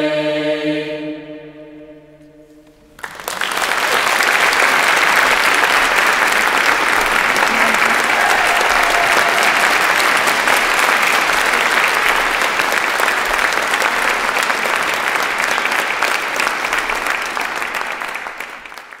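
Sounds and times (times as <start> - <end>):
audience applauding: 3.0 - 19.0.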